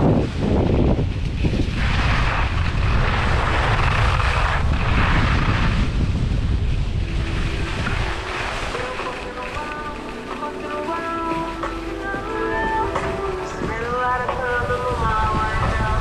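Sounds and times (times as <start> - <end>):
skis hissing over snow: 0.0 - 16.0
wind buffeting microphone: 0.0 - 16.0.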